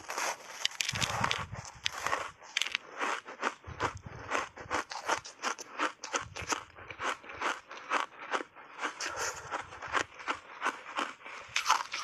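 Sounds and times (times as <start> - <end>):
ice crunching between teeth: 0.0 - 12.0.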